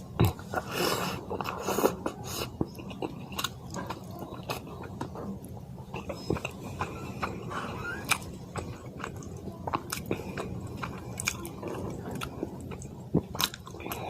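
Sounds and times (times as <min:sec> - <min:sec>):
person chewing and smacking: 0:00.0 - 0:14.0.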